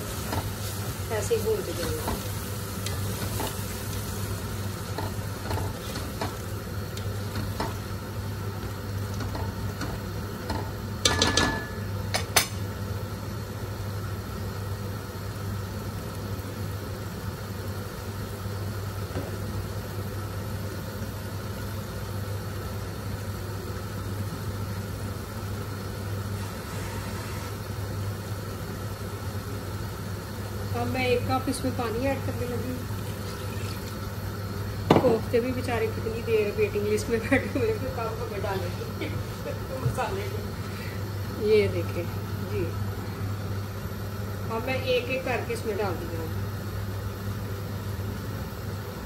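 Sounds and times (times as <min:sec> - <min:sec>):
constant low hum: 0:00.0 - 0:49.0
masala sizzling in oil: 0:00.0 - 0:49.0.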